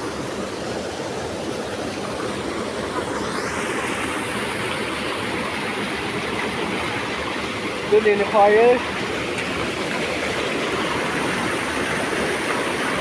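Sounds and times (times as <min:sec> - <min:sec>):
stream rushing over stones: 0:00.0 - 0:13.0.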